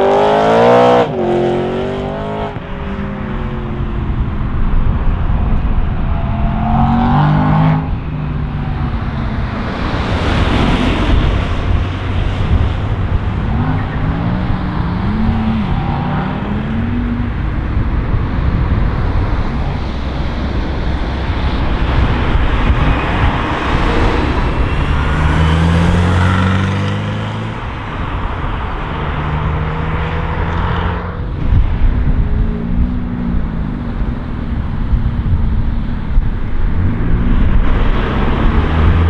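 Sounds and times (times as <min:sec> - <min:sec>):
car accelerating: 0:00.0 - 0:39.0
car engines driving by: 0:00.0 - 0:39.0.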